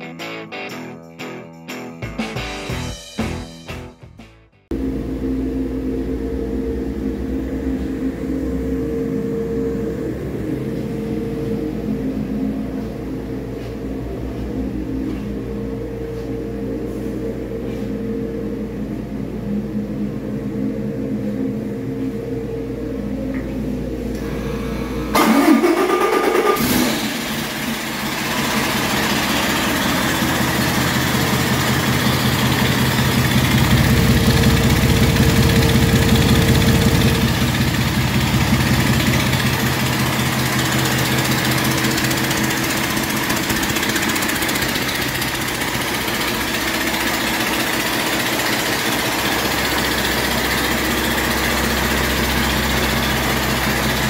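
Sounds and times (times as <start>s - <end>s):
diesel engine idling and revving: 4.7s - 54.0s.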